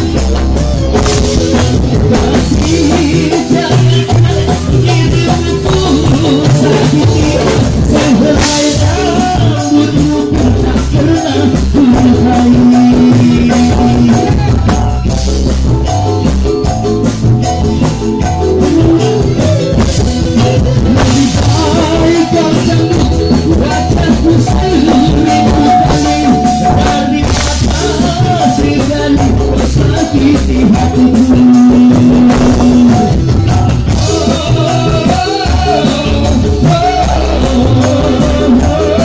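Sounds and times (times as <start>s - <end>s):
live band with keyboard and guitar: 0.0s - 39.0s.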